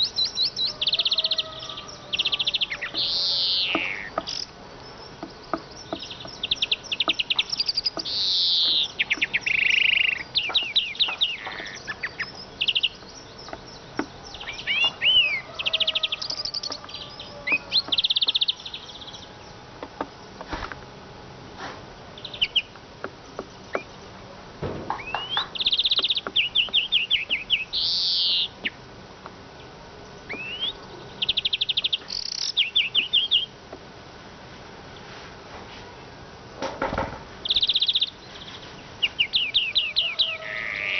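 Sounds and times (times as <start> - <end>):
bird singing chirping trills: 0.0 - 20.4, 22.1 - 24.3, 24.9 - 28.8, 29.6 - 33.6, 37.4 - 40.9.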